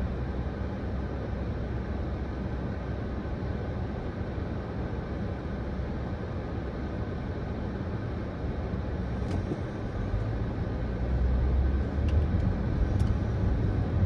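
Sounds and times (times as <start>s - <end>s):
car idling rumble: 0.0s - 14.0s.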